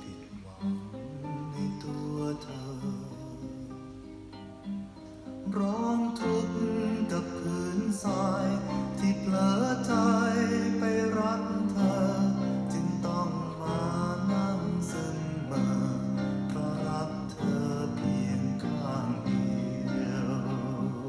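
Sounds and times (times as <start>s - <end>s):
song with singing and guitar: 0.0s - 21.0s.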